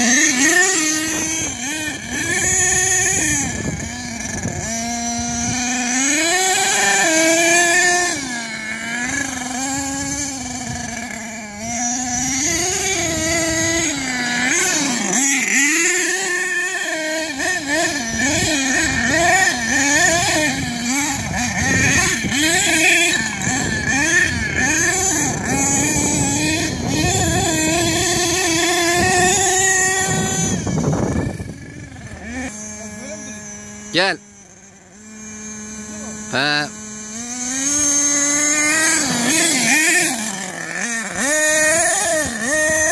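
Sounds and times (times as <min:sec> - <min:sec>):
small nitro engine revving: 0:00.0 - 0:42.9.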